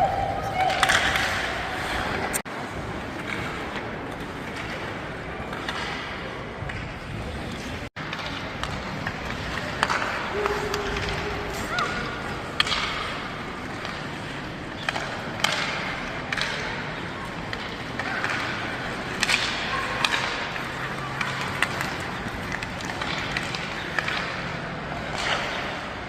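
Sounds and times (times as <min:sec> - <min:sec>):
sticks clacking on puck: 0:03.1 - 0:26.0.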